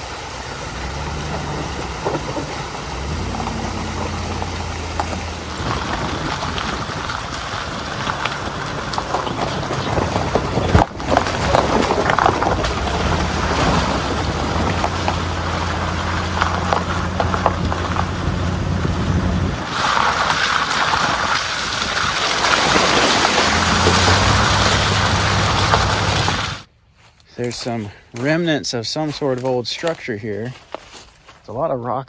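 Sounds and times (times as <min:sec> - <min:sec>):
vehicle engine drone: 0:00.0 - 0:26.7
road and tyre noise: 0:00.0 - 0:31.4
knocks and rattles: 0:00.9 - 0:26.6.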